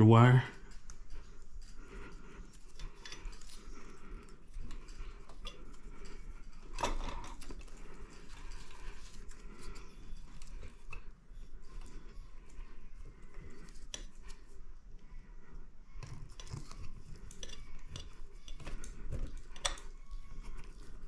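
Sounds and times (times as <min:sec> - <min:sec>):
wires being twisted by hand: 0:00.0 - 0:21.0.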